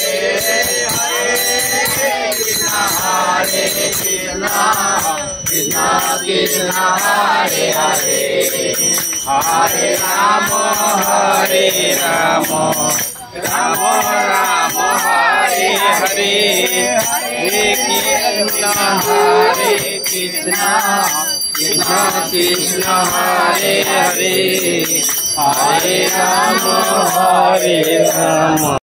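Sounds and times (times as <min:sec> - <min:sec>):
group singing a chant: 0:00.0 - 0:28.8
jingling bell: 0:00.0 - 0:28.8
rhythmic hand clapping: 0:00.0 - 0:28.8.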